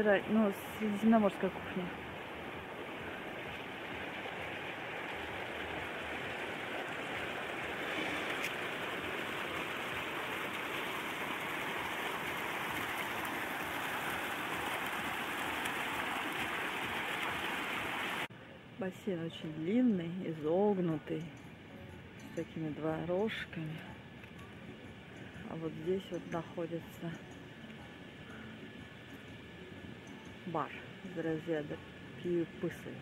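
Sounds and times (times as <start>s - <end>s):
outdoor ambient rushing noise: 0.0s - 33.0s.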